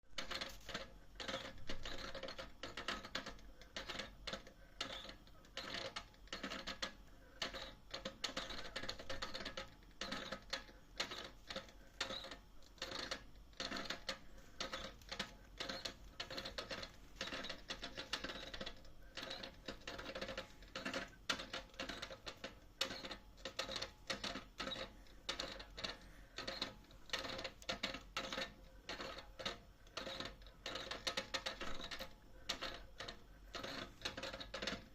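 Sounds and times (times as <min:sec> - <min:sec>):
faint steady hum: 0:00.1 - 0:34.9
gas meter clicking and rattling: 0:00.2 - 0:34.9.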